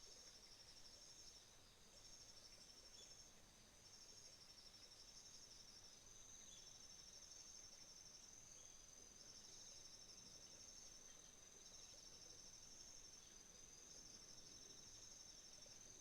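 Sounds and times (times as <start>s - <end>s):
soft outdoor hiss: 0.0s - 16.0s.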